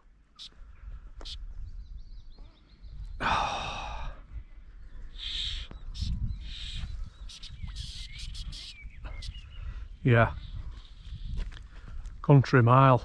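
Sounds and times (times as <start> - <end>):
wind buffeting microphone: 0.5 - 13.0.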